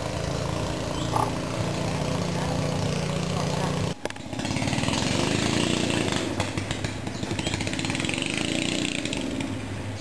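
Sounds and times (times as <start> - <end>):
small engine running: 0.0 - 9.5.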